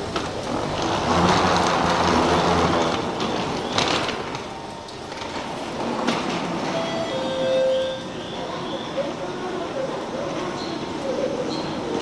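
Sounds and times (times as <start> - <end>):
high-speed train rushing: 0.0 - 12.0.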